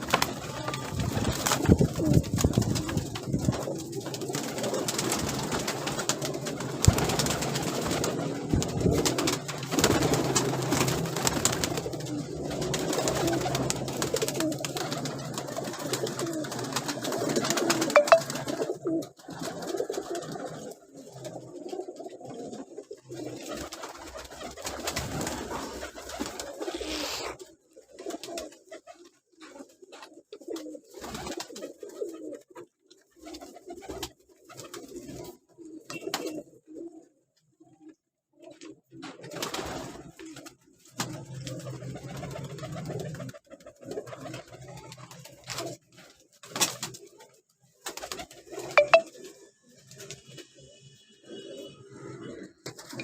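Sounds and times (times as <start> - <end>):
pigeons cooing: 0.0 - 50.4, 51.2 - 53.0.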